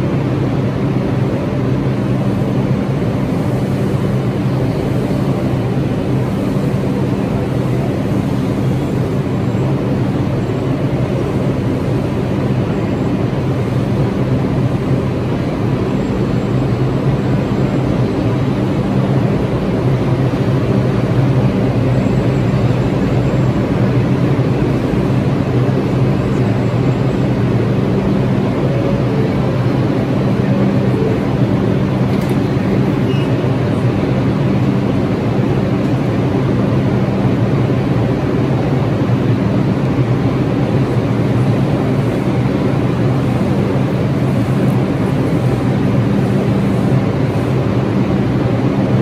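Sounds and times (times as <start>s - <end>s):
constant rumble: 0.0s - 49.0s
subway train equipment humming: 0.0s - 49.0s.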